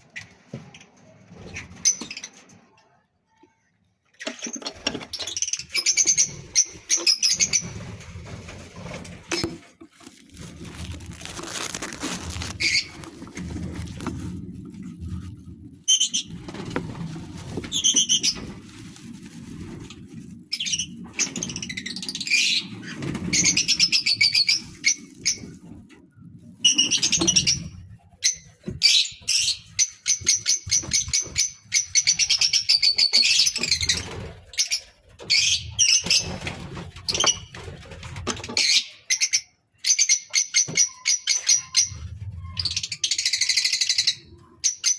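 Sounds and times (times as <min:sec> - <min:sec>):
lovebirds chirping and chattering: 0:04.2 - 0:14.2, 0:15.8 - 0:37.6, 0:38.6 - 0:44.9.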